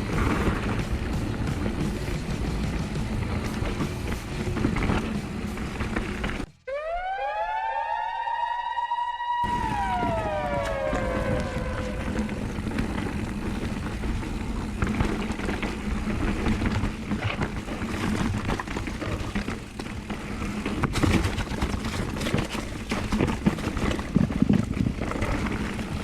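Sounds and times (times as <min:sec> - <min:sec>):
bike tyres running over rock: 0:00.0 - 0:06.5, 0:09.4 - 0:26.0.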